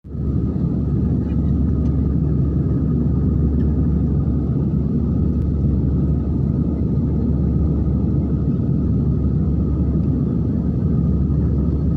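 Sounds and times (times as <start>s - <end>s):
airliner cabin rumble: 0.1s - 11.9s.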